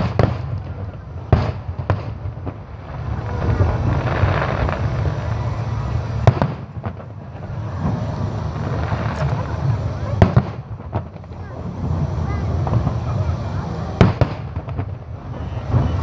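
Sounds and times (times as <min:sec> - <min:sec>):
firework bangs: 0:00.0 - 0:16.0
firework crackling: 0:00.0 - 0:16.0
low rumble: 0:02.3 - 0:16.0.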